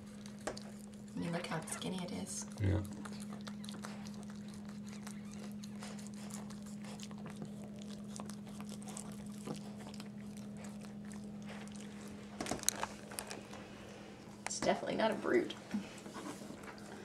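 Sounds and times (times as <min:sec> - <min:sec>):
dog licking puppy: 0:00.0 - 0:14.0.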